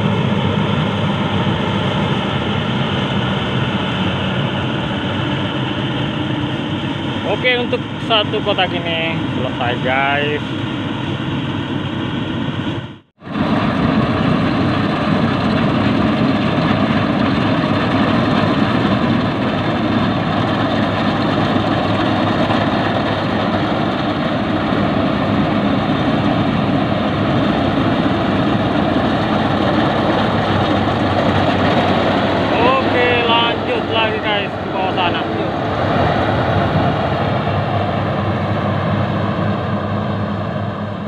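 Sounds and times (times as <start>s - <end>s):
combine harvester engine drone: 0.0s - 41.0s.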